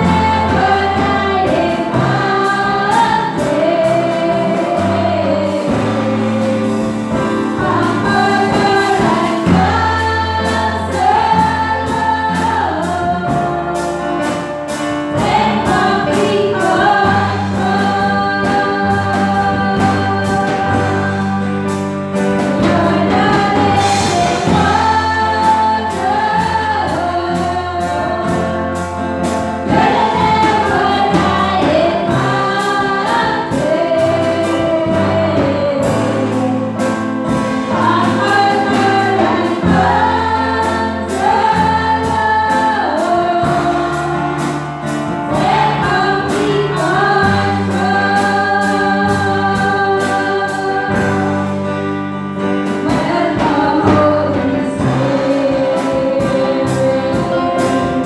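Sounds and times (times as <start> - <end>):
women singing together: 0.0 - 21.7, 22.4 - 51.5, 52.7 - 58.0
amplified instrumental backing: 0.0 - 58.0.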